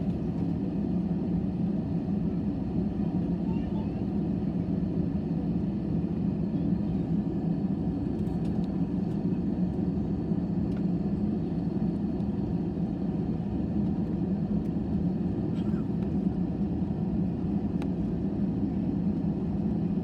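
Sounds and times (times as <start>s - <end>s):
jet engine drone in cabin: 0.0s - 20.0s.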